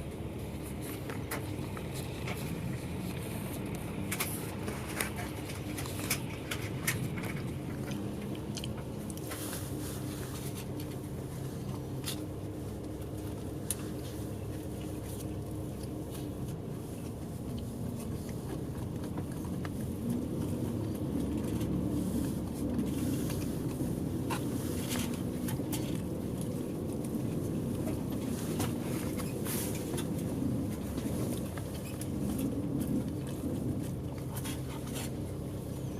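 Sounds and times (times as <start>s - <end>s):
bus engine humming: 0.0s - 35.9s
road noise: 0.0s - 35.9s.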